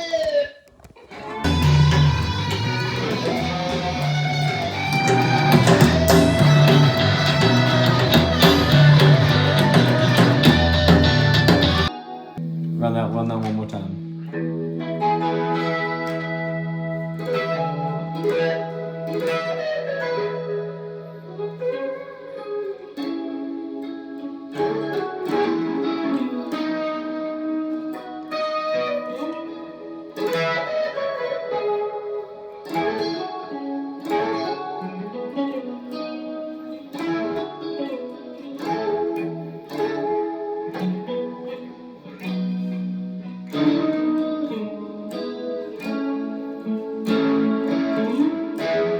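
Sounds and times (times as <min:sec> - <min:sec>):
guitar playing: 0:00.0 - 0:48.9.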